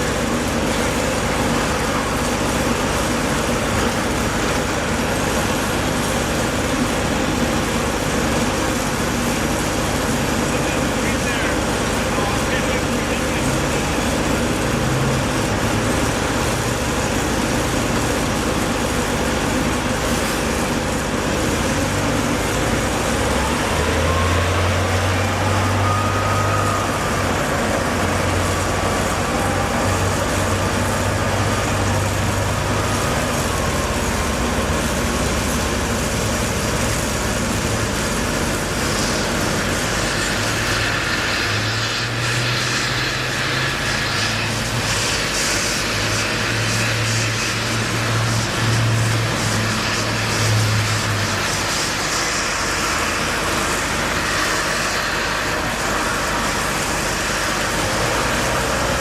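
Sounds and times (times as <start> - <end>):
heavy vehicle engine running: 0.0 - 59.0
traffic noise: 0.0 - 59.0.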